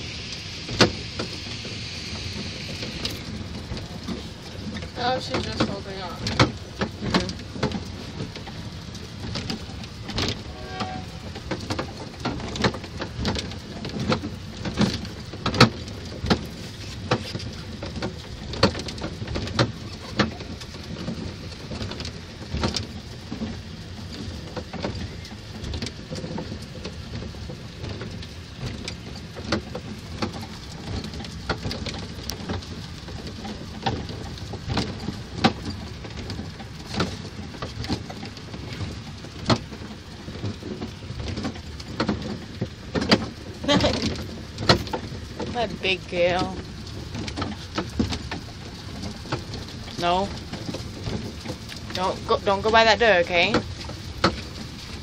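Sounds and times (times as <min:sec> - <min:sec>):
kiddie train rumble and rattle: 0:00.0 - 0:55.0.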